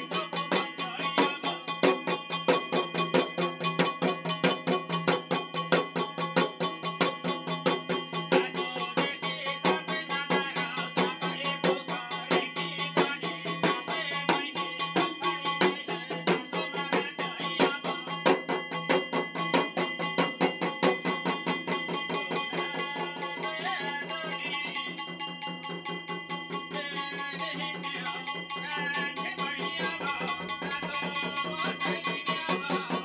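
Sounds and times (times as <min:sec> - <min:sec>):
drum beaten in fast rhythm: 0:00.0 - 0:33.0
metallic ringing: 0:00.0 - 0:33.0.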